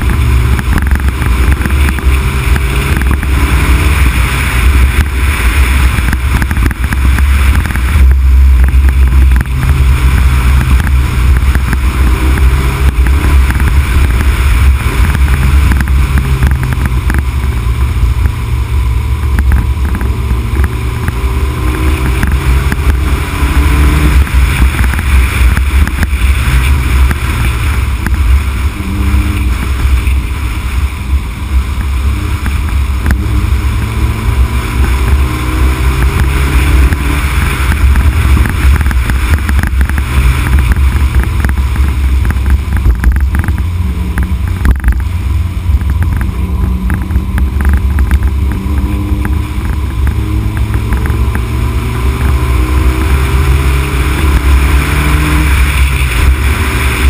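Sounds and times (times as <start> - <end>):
car engine revving: 0.0 - 57.0
wind rumbling on microphone: 0.0 - 57.0.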